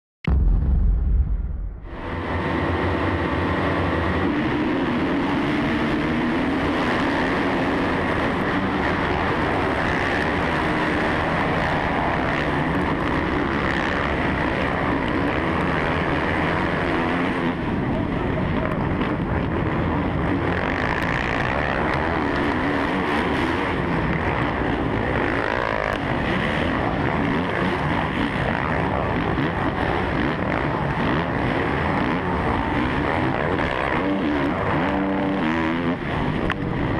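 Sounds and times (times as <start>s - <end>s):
motocross bike engine racing: 2.0s - 36.9s
other motocross bike engines: 2.0s - 36.9s.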